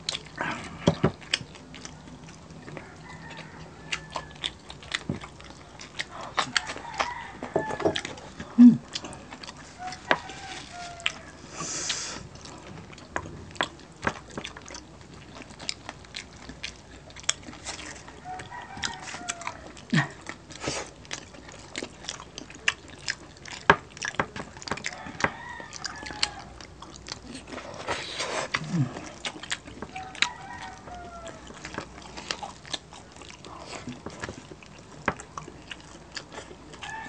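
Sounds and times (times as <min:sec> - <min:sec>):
people chewing crunchy food: 0:00.0 - 0:37.0.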